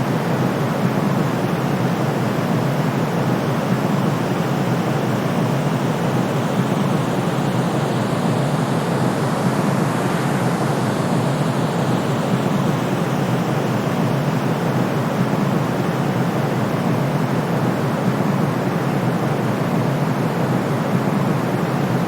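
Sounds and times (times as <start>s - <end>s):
steady white noise: 0.0s - 22.0s.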